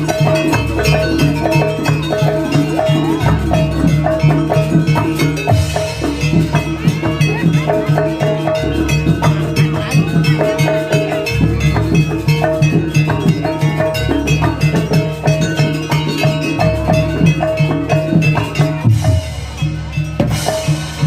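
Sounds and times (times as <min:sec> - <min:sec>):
drums: 0:00.0 - 0:21.0
metal percussion ensemble music: 0:00.0 - 0:21.0.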